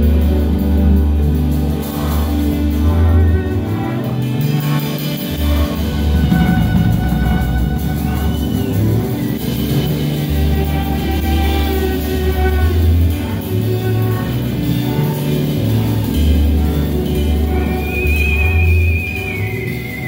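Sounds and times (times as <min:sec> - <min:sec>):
deep bass notes: 0:00.0 - 0:20.0
live band playing: 0:00.0 - 0:20.0.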